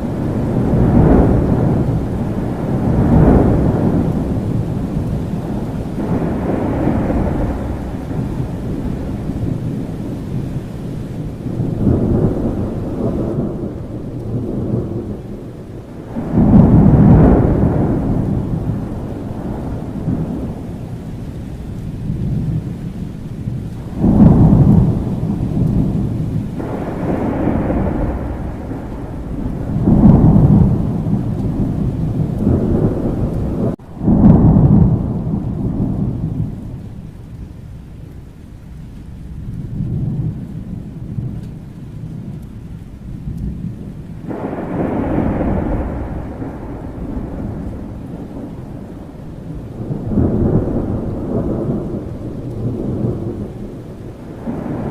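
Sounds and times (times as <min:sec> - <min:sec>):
rolling thunder: 0:00.0 - 0:54.9
steady rain: 0:00.0 - 0:54.9.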